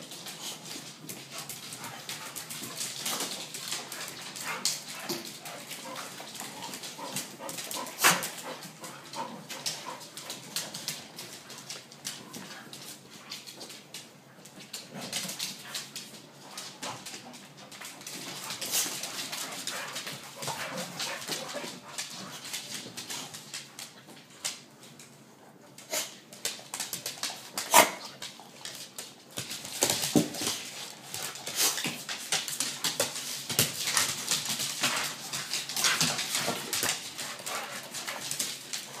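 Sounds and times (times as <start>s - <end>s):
paws clicking on wooden floor: 0.0s - 39.0s.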